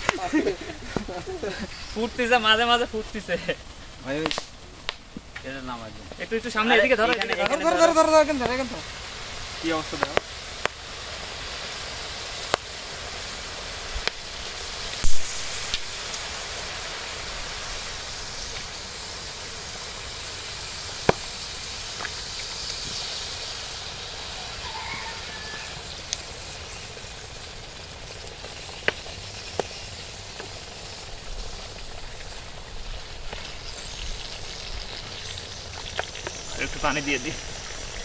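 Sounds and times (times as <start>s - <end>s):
hissing fizz of lime in water: 5.6s - 38.0s.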